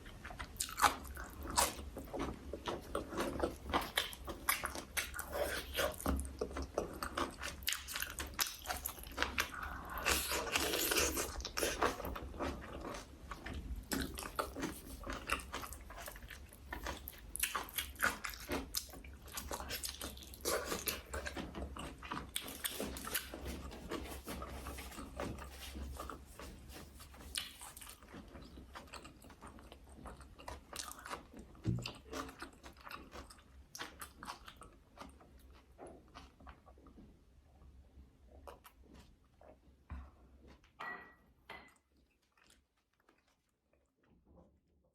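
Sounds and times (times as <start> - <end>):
person chewing crunchy food: 0.0 - 40.8, 41.7 - 43.9.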